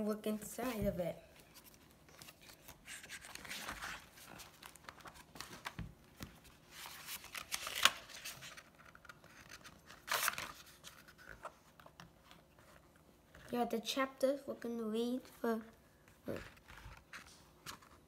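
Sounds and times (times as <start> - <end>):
book pages flipping: 0.6 - 13.7, 15.6 - 18.0.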